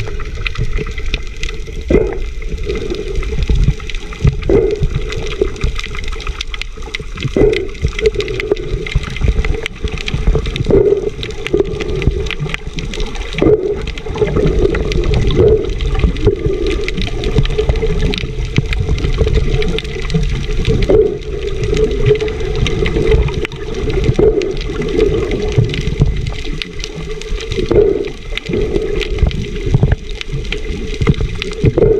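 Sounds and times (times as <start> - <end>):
underwater sloshing and gurgling: 0.0 - 31.9.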